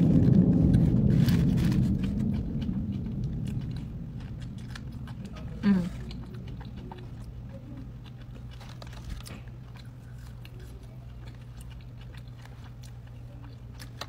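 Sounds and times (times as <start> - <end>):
person chewing food: 0.0 - 14.0
steady low hum: 0.0 - 14.0.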